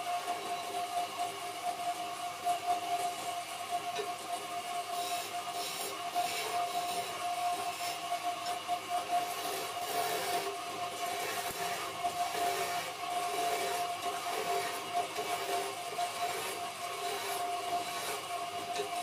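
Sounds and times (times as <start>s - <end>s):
chisel shaving spinning wood: 0.0s - 19.0s
wood lathe motor whining: 0.0s - 19.0s.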